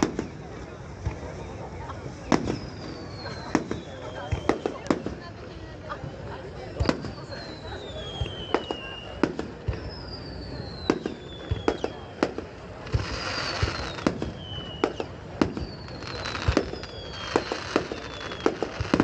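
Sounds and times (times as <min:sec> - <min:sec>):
fireworks crackling hiss: 0:00.0 - 0:19.0
fireworks shells bursting with bangs: 0:00.0 - 0:19.0.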